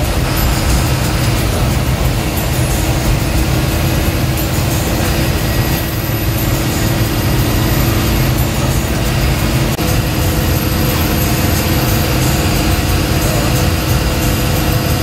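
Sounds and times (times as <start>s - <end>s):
bus diesel engine running: 0.0s - 15.0s
road and cabin noise: 0.0s - 15.0s.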